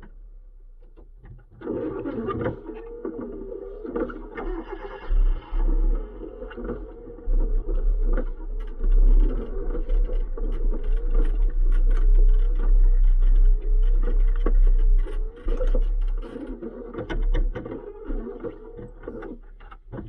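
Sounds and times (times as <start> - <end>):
rally car engine rumbling: 0.0 - 20.0.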